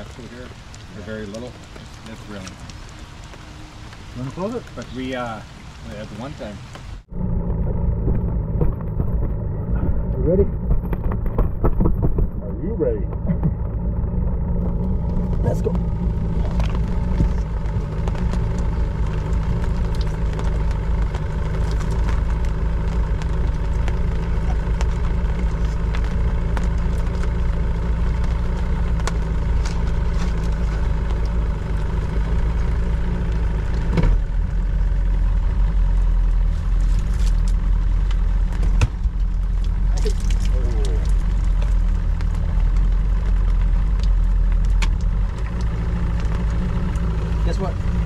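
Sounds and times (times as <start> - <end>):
boat motor running: 7.1 - 48.0.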